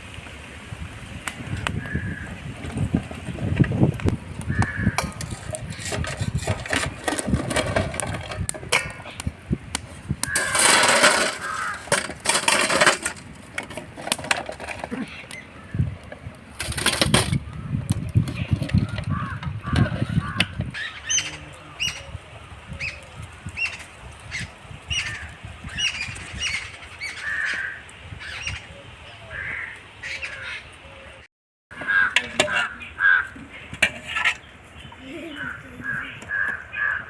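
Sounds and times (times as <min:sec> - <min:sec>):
birds calling: 0:01.4 - 0:02.5, 0:04.2 - 0:09.3, 0:10.1 - 0:13.0, 0:14.7 - 0:37.0.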